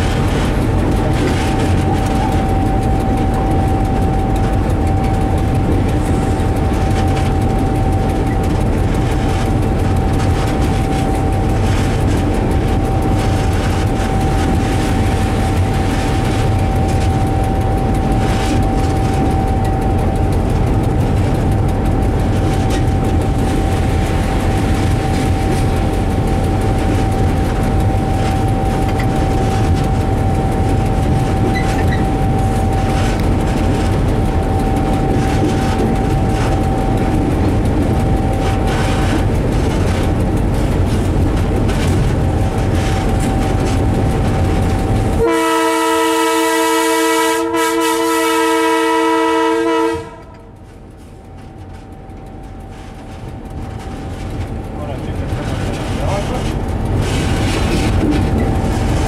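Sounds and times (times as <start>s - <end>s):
steady high whine: 0.0s - 47.6s
locomotive engine rumbling: 0.0s - 59.0s.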